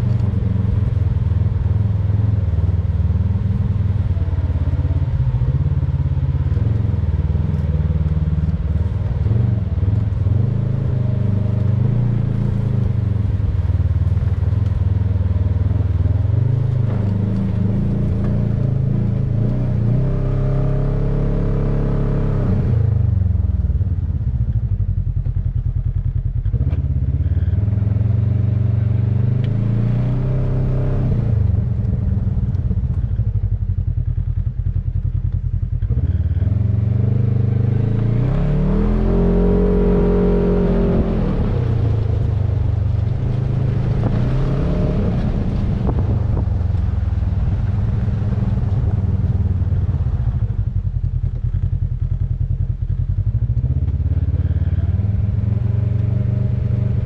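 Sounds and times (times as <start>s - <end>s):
engine revving: 0.0s - 23.6s, 26.4s - 32.6s, 35.8s - 50.8s, 53.3s - 57.0s.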